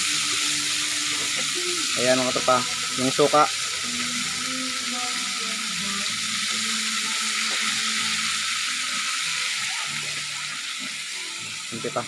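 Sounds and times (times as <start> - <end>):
wok sizzling: 0.0 - 12.0.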